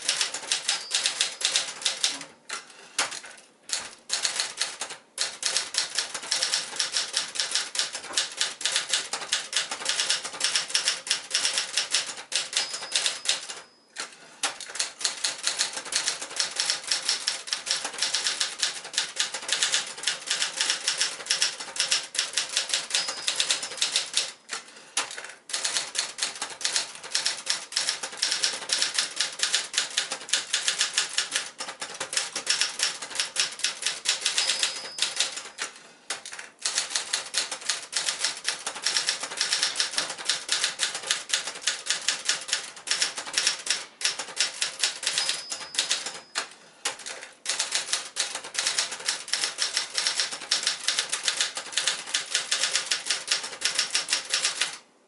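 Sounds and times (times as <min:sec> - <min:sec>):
manual typewriter typing: 0:00.0 - 0:54.8.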